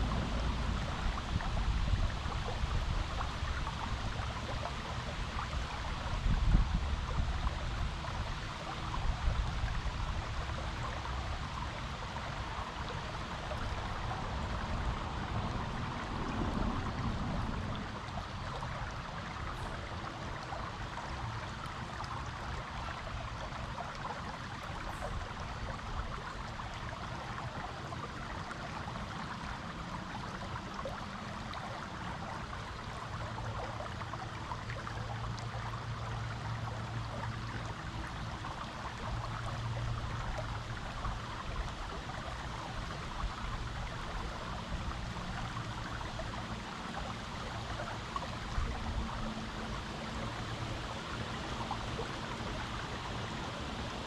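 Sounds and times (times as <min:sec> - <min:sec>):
creek water flowing over rocks: 0:00.0 - 0:54.0.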